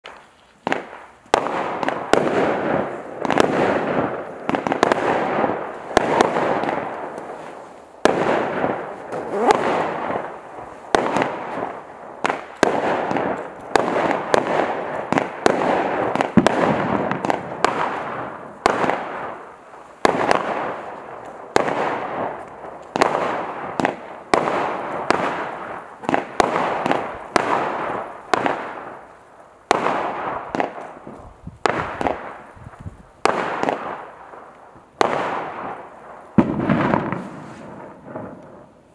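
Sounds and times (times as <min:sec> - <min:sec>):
firework shots banging: 0:00.6 - 0:38.8.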